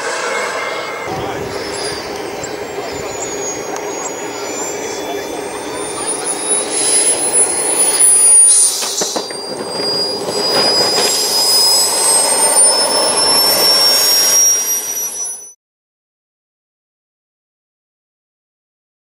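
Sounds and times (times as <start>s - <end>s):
model jet engine whining: 0.0s - 15.6s.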